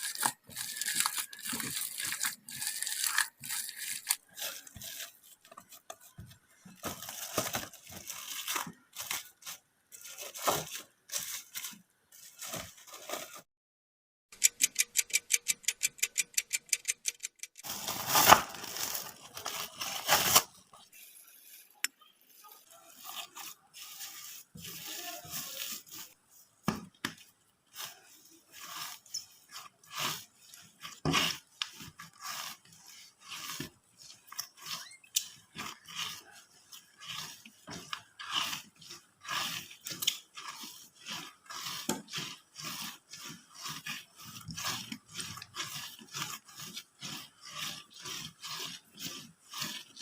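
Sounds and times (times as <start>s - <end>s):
rustling and scraping: 0.0s - 13.5s, 17.6s - 50.0s.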